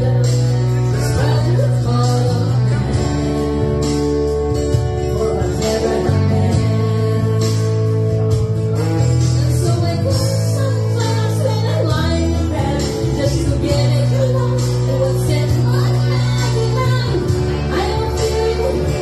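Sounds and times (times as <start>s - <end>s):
recorded backing track: 0.0s - 19.0s
woman singing karaoke: 0.0s - 19.0s.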